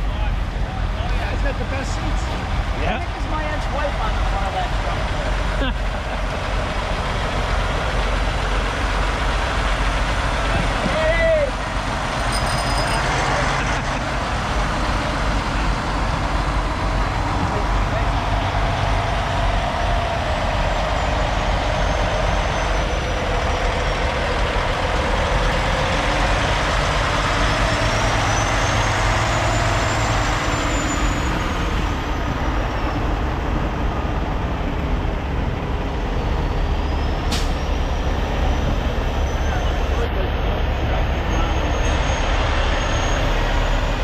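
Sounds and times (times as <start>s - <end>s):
diesel trucks engine noise: 0.0s - 44.0s.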